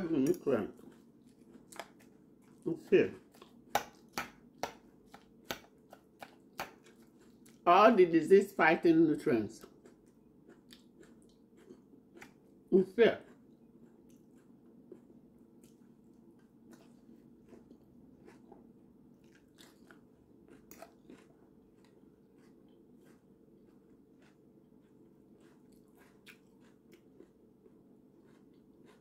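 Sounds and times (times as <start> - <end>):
faint chewing crunches: 0.0 - 7.7, 9.5 - 29.0
low room hum: 0.0 - 29.0.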